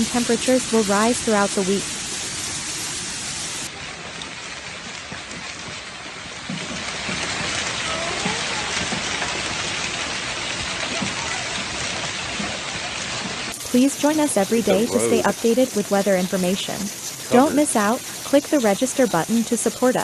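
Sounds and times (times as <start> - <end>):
rain on hard surfaces: 0.0 - 20.0.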